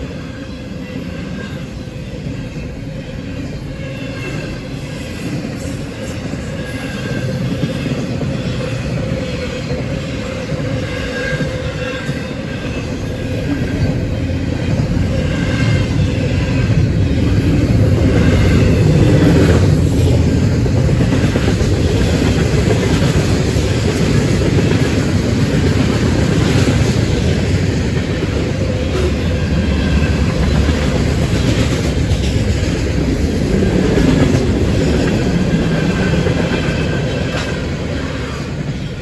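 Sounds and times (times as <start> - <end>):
freight train rumbling on track: 0.0 - 39.0.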